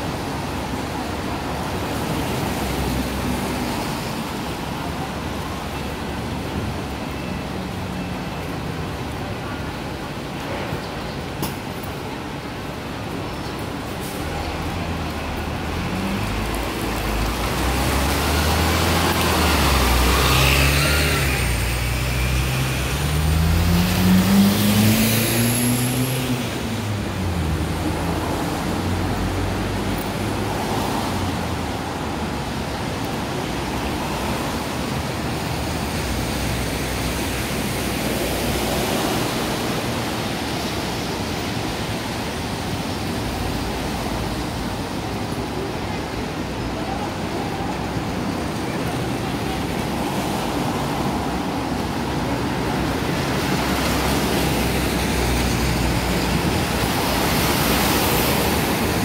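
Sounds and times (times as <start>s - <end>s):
bus engine pulling away: 0.0s - 59.0s
traffic on wet road: 0.0s - 59.0s.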